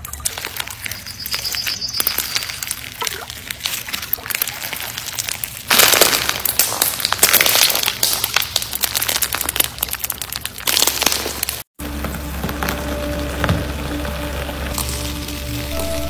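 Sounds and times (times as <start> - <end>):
slime crackling and popping: 0.0 - 16.0.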